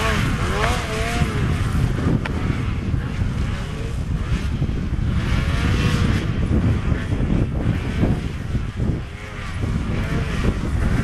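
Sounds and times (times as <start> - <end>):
snowmobile engine running: 0.0 - 11.0
steady low rumble: 0.0 - 11.0.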